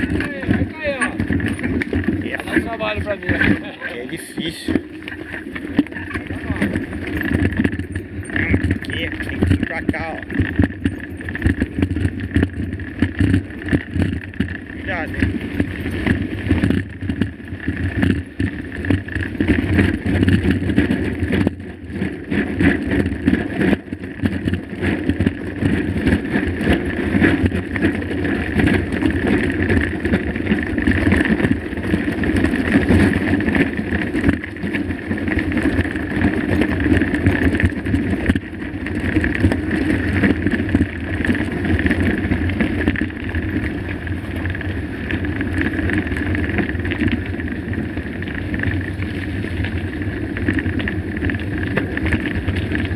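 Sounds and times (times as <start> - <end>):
bike rattling and knocking: 0.0 - 52.9
bike tyres rumbling on rocks: 0.0 - 52.9.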